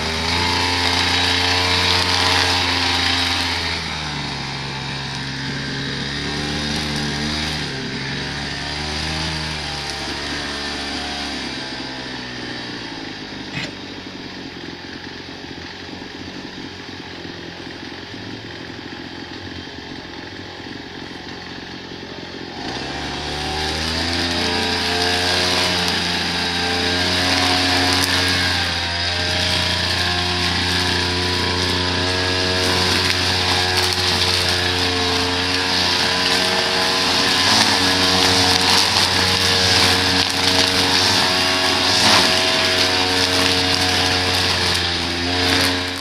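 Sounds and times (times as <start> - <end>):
small petrol engine running: 0.0 - 46.0.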